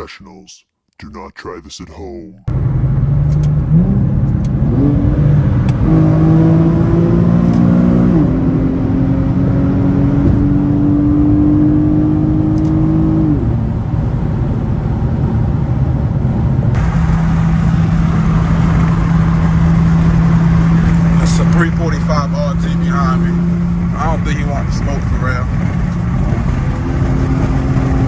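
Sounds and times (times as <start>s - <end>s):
car exhaust while accelerating: 2.5s - 28.0s.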